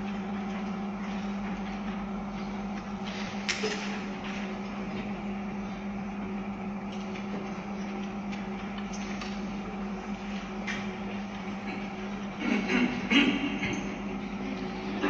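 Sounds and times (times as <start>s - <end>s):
low hum over hiss: 0.0s - 15.0s.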